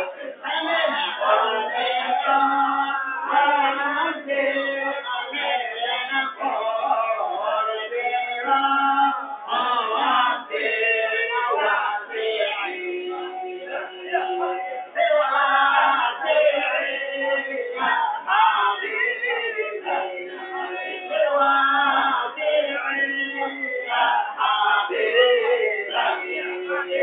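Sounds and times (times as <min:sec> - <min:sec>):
men singing together unaccompanied: 0:00.0 - 0:27.0.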